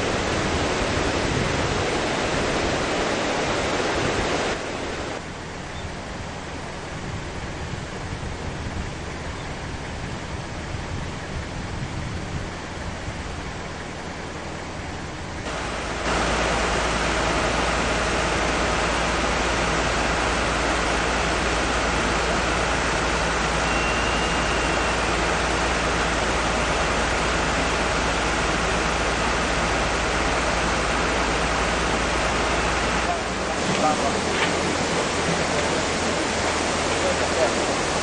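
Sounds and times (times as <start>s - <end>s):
steady rushing noise: 0.0s - 5.6s, 6.2s - 38.0s.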